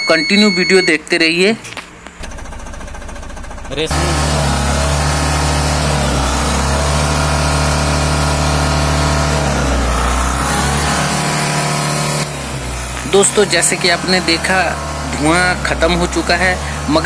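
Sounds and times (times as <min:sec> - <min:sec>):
diesel engine revving: 0:02.0 - 0:17.0.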